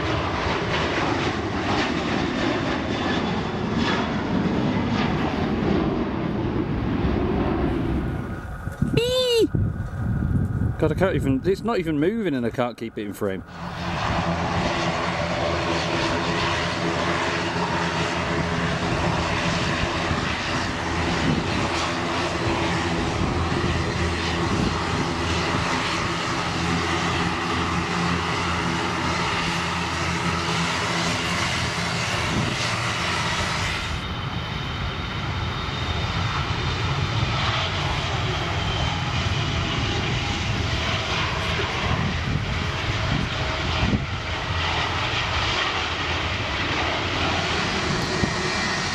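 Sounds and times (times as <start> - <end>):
airliner engines running: 0.0 - 48.9.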